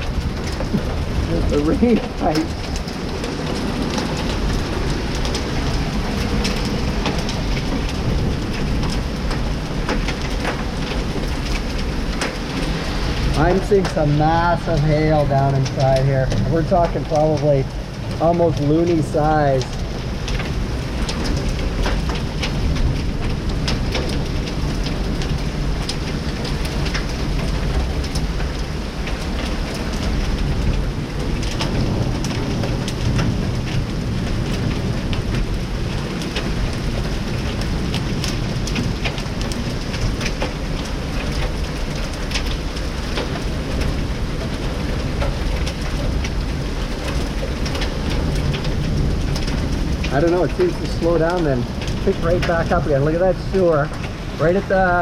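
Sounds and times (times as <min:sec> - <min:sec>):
hailstones clicking on hard surfaces: 0:00.0 - 0:55.0
heavy rain rushing: 0:00.0 - 0:55.0.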